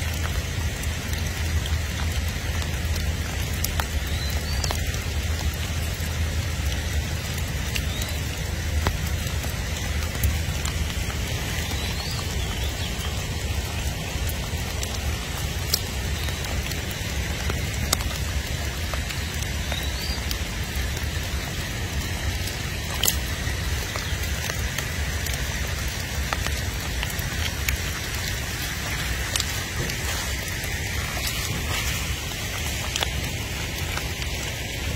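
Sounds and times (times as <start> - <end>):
outdoor hiss: 0.0 - 34.9.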